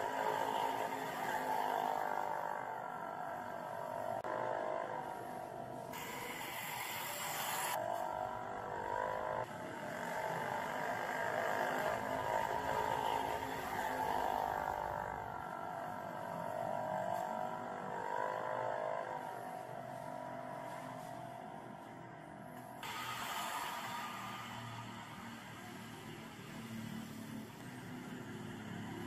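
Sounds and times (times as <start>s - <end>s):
droning hum of layered tones: 0.0s - 29.0s.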